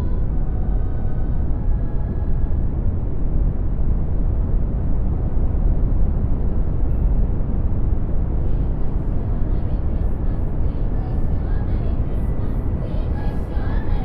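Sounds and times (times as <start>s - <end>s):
brown noise rumbling hiss: 0.0s - 14.0s.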